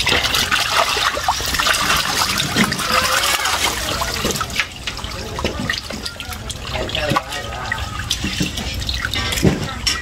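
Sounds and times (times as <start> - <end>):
shallow water splashing: 0.0 - 10.0.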